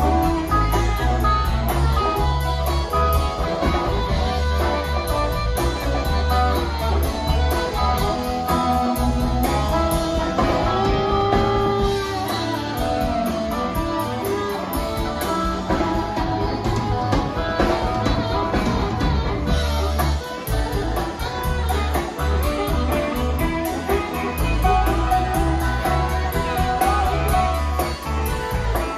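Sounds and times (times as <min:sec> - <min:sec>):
amplified harmonica: 0:00.0 - 0:28.9
blues-rock band playing: 0:00.0 - 0:28.9.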